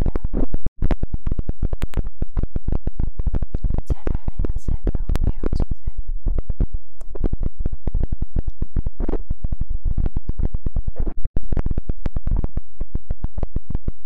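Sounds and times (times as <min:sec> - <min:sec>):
fingers stroking a microphone: 0:00.0 - 0:14.0.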